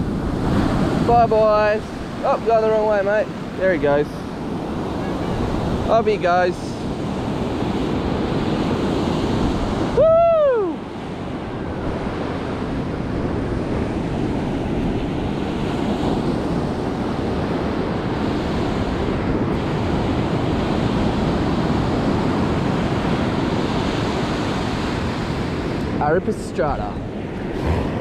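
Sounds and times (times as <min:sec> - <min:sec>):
ocean surf breaking on beach: 0:00.0 - 0:28.0.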